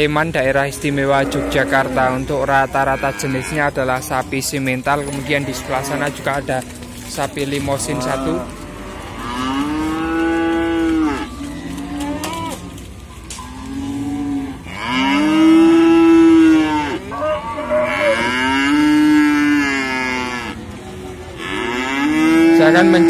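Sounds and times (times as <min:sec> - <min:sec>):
cattle mooing: 0:00.8 - 0:12.8, 0:13.4 - 0:20.6, 0:21.3 - 0:23.0.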